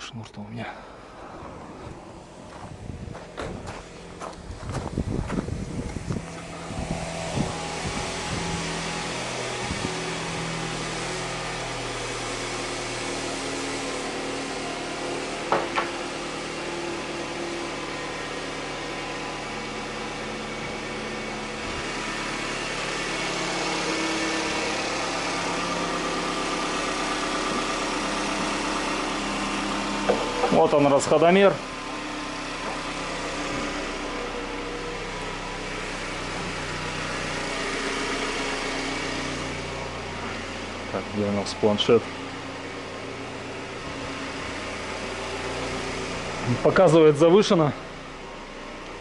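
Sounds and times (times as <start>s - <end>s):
car engine idling: 0.0s - 49.0s
engine knocks: 1.2s - 14.4s, 15.2s - 49.0s.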